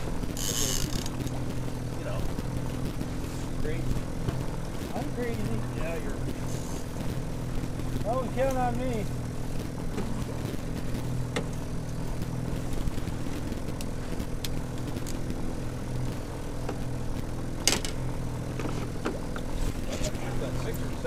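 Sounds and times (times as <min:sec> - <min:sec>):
outboard motor humming: 0:00.0 - 0:21.0.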